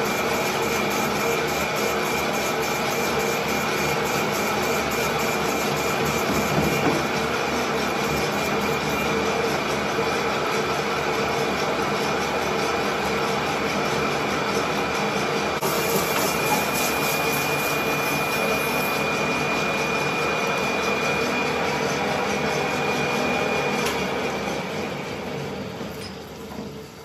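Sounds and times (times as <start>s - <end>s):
lathe tool scraping metal: 0.0s - 10.4s, 12.0s - 23.8s
lathe running: 0.0s - 25.8s.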